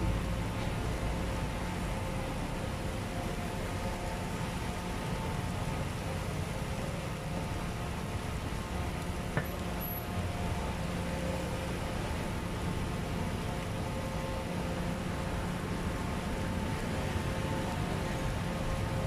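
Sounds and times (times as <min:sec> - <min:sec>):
street background rumble: 0:00.0 - 0:19.0.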